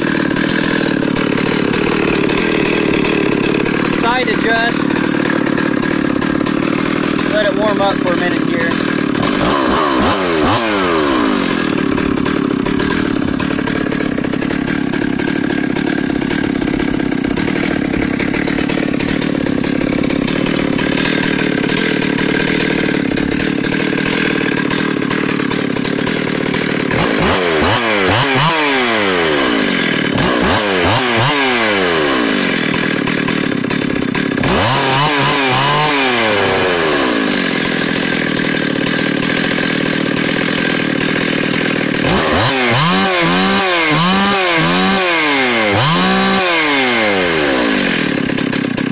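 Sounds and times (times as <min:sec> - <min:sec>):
chainsaw running and revving: 0:00.0 - 0:48.9.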